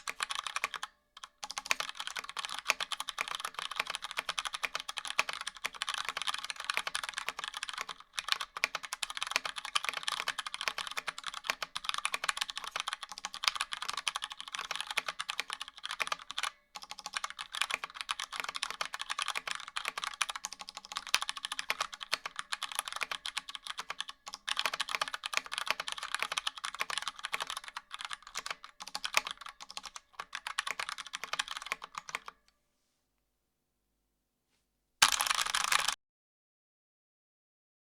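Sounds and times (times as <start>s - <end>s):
mechanical keyboard typing: 0.0s - 32.4s, 35.0s - 36.0s.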